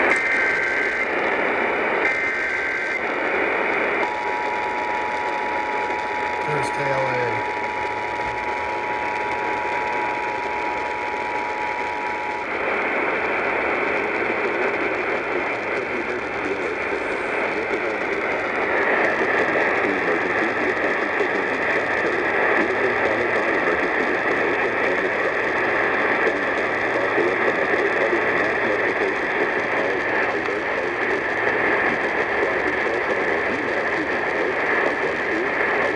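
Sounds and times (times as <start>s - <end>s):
radio static hiss: 0.0s - 35.9s.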